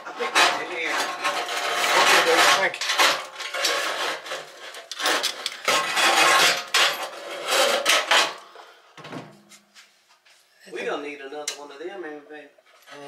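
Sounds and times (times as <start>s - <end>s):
household objects clattering and scraping: 0.0s - 10.3s, 12.6s - 13.0s.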